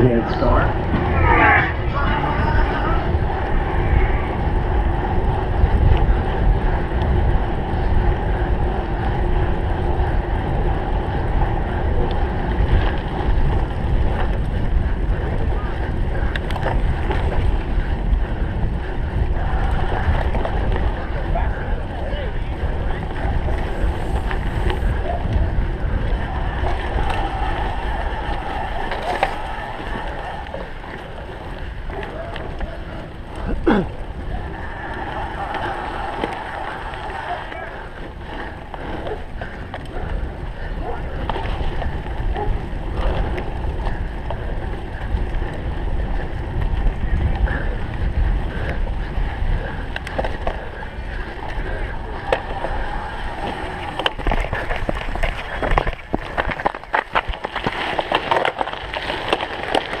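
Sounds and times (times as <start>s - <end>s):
bike rumbling over rough ground: 0.0s - 60.0s
wind buffeting microphone: 0.0s - 60.0s.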